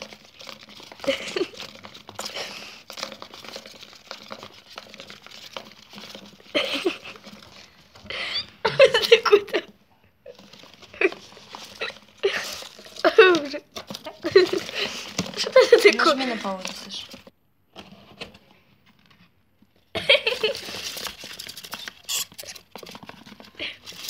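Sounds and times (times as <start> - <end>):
claws scrabbling on cardboard: 0.0 - 8.1, 10.3 - 19.2, 20.1 - 24.0.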